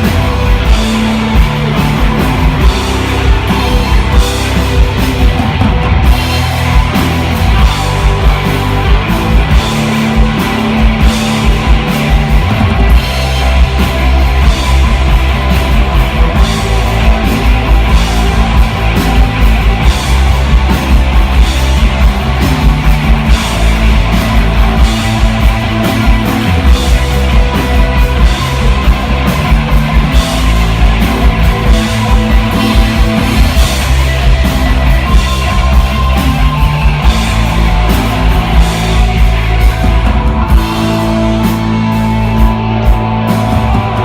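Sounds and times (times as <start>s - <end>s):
bass guitar: 0.0s - 44.0s
drum kit beat: 0.0s - 44.0s
electric guitar: 0.0s - 44.0s.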